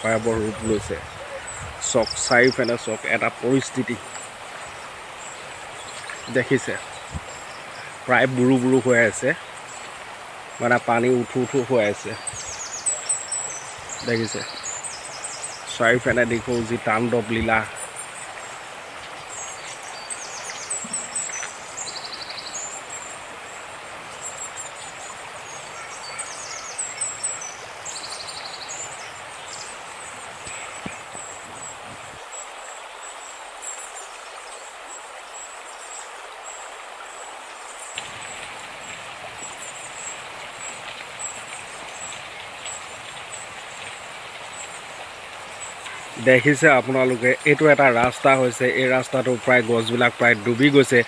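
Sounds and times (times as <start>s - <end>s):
birds chirping: 0.0s - 51.0s
insects droning: 0.0s - 51.0s
river rushing: 0.0s - 51.0s.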